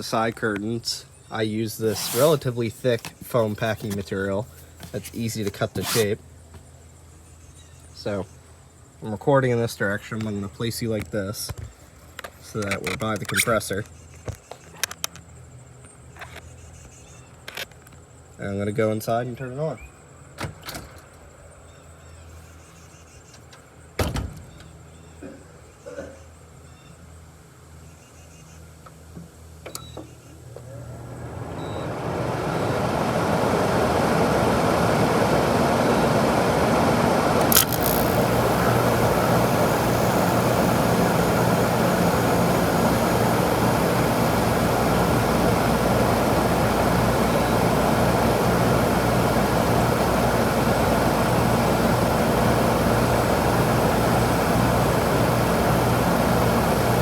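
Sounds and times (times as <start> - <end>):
air conditioner running with low hum: 0.0 - 14.7, 26.0 - 57.0.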